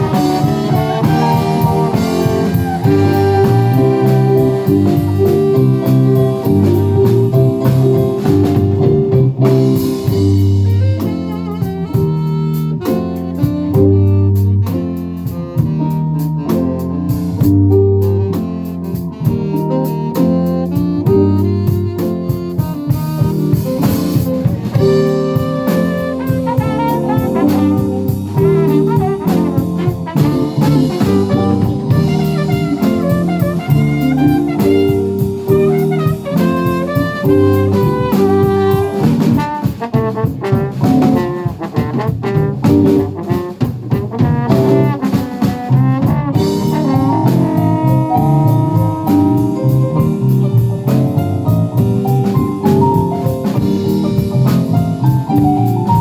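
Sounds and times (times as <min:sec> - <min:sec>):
drum kit: 0:00.0 - 0:56.0
horns: 0:00.0 - 0:56.0
live jazz band playing: 0:00.0 - 0:56.0.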